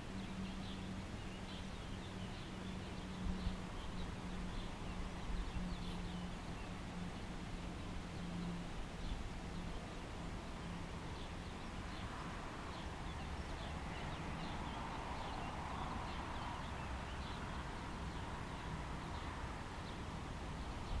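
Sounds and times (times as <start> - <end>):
small birds twittering: 0.0 - 21.0
steady background hiss: 0.0 - 21.0.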